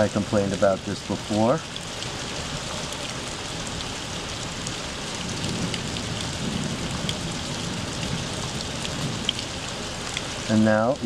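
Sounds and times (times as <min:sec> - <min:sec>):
rain on hard surfaces and water: 0:00.0 - 0:11.0.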